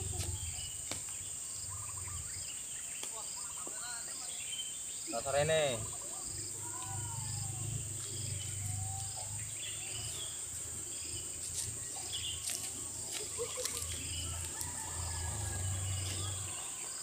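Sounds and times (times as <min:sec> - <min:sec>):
bird chirps: 0:00.0 - 0:17.0
insects trilling: 0:00.0 - 0:17.0.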